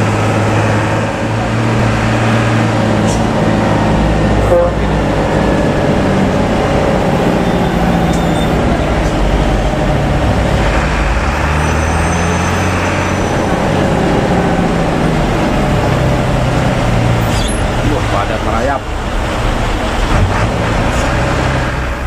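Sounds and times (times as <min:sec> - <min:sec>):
bus engine droning: 0:00.0 - 0:22.0
tyre and road noise: 0:00.0 - 0:22.0.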